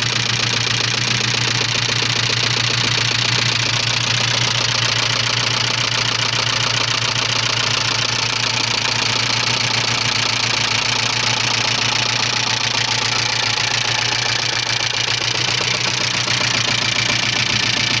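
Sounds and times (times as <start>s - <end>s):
car engine running: 0.0s - 18.0s
rapid regular engine knock: 0.0s - 18.0s.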